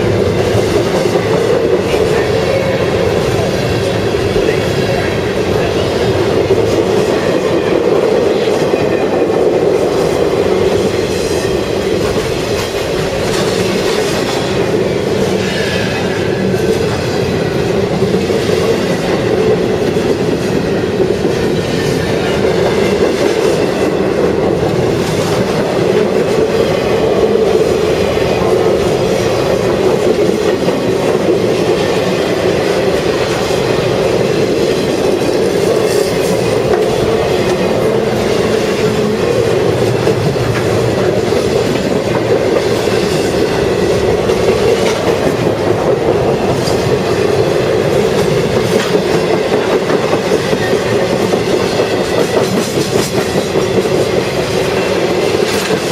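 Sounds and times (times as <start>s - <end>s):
rail joints clickety-clack: 0.0s - 55.9s
train wheels rumbling on rails: 0.0s - 55.9s.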